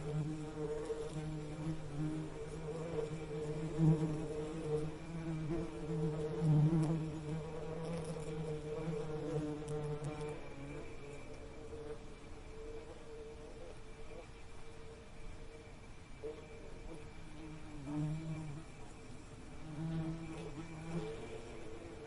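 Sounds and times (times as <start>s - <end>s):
bees buzzing: 0.0s - 13.8s, 16.2s - 22.0s.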